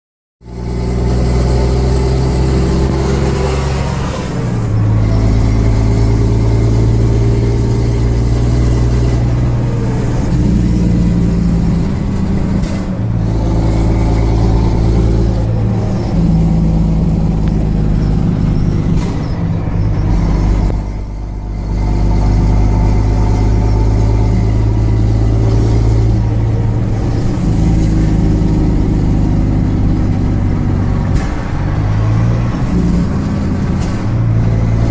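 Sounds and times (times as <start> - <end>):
lorry diesel engine droning: 0.4 - 34.9.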